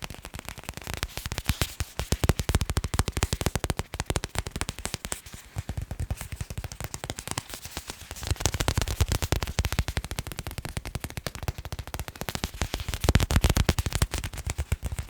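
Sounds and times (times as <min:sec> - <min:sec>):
fast tapping on hard objects: 0:00.0 - 0:15.0.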